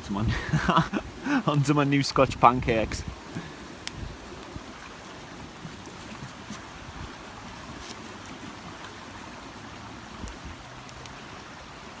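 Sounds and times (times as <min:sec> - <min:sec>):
campfire crackles: 0:00.0 - 0:12.0
river rushing: 0:00.0 - 0:12.0.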